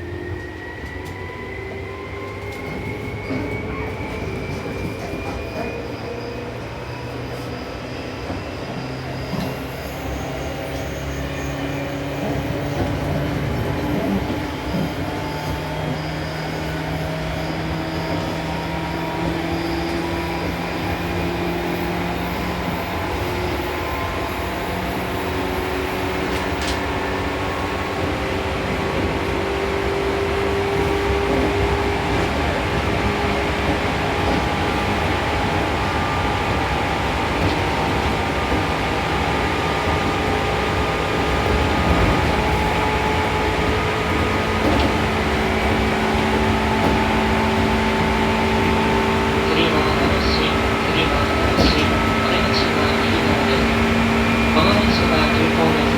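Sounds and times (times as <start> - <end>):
train rail and running noise: 0.0 - 55.9
traction motor whine: 8.2 - 55.9.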